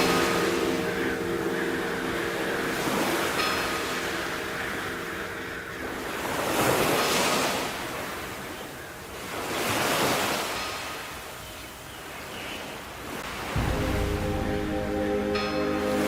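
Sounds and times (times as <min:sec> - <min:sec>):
sea waves surging: 0:00.0 - 0:11.4, 0:12.9 - 0:16.0.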